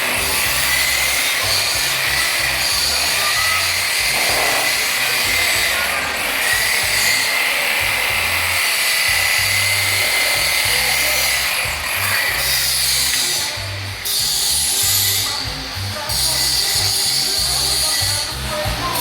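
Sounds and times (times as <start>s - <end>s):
background music with bass: 0.0s - 7.2s, 7.8s - 19.0s
power tool grinding metal: 0.0s - 19.0s.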